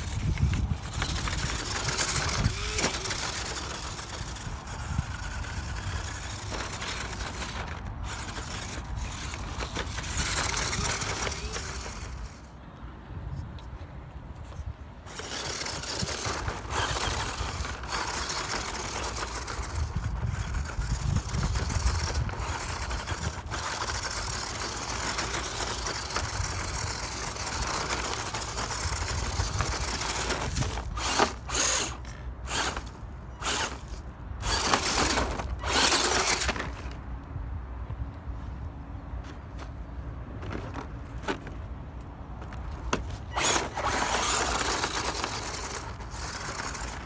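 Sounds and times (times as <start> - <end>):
toy car electric motor whirring: 0.0 - 12.5, 15.0 - 37.0, 42.7 - 47.0.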